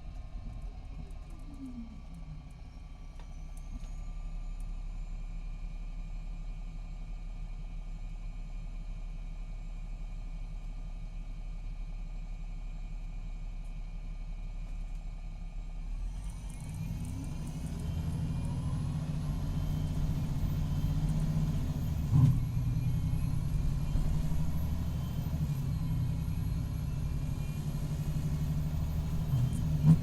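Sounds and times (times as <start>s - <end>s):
diesel bus engine droning: 0.0s - 30.0s.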